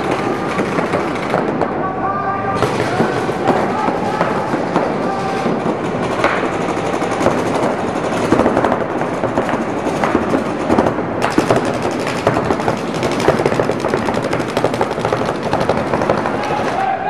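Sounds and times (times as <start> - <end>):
paintball markers firing: 0.0 - 1.7, 2.6 - 16.9.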